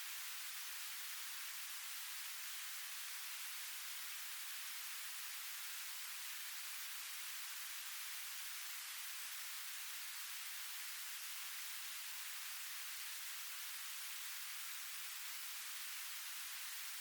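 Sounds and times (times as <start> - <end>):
steady white noise hiss: 0.0 - 17.0.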